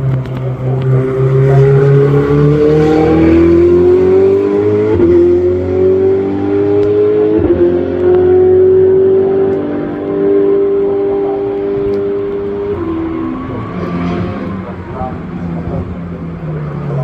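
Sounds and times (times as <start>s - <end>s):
racing car engine accelerating: 0.0s - 17.0s.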